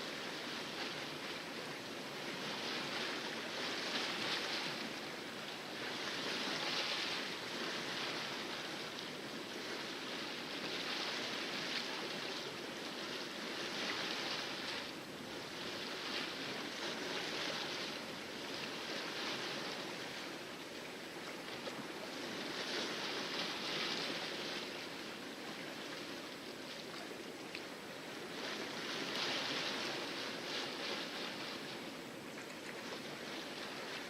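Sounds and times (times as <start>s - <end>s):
water rushing along boat hull: 0.0s - 34.0s.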